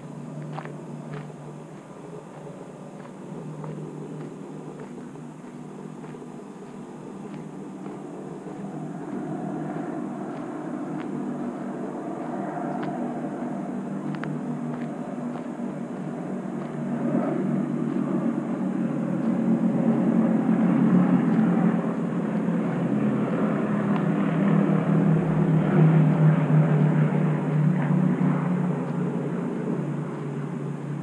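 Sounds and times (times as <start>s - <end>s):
low steady engine drone: 0.0s - 31.0s.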